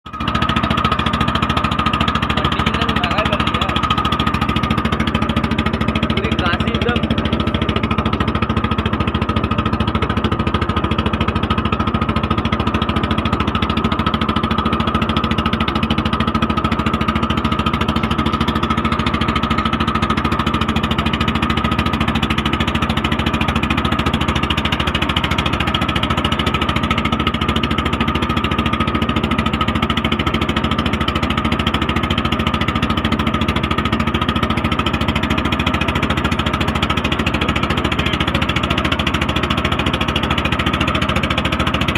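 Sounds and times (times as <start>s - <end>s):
motorboat engine knocking: 0.0s - 41.9s.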